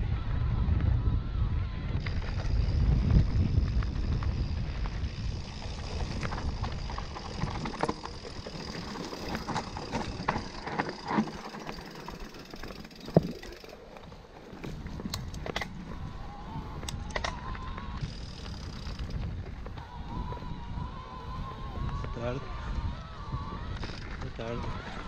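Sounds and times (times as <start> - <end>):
wind buffeting microphone: 0.0 - 25.0
bike rattling over rough ground: 0.1 - 25.0.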